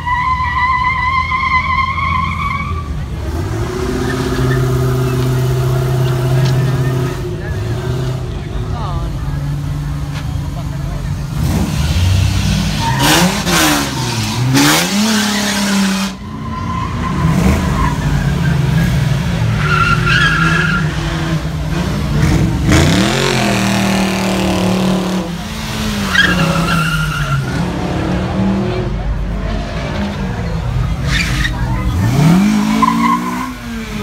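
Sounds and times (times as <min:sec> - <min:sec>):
vehicle engines revving: 0:00.0 - 0:34.0.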